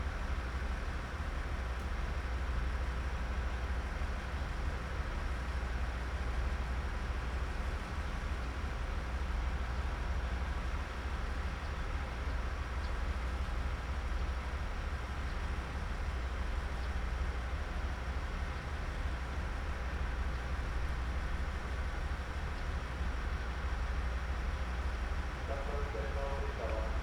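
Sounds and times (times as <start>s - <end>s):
diesel railcar engine idling: 0.0s - 27.0s.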